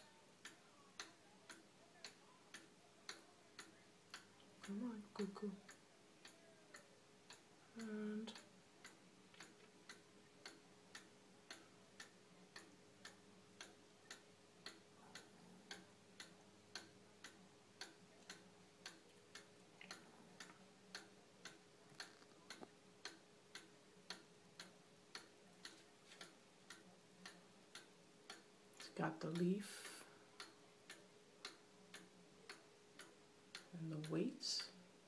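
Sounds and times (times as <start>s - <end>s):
clock ticking faintly: 0.0s - 35.0s.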